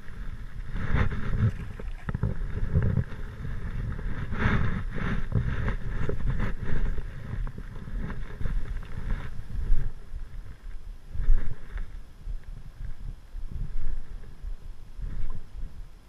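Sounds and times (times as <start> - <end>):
rustles: 0.0 - 16.0
wind buffeting microphone: 0.0 - 16.0.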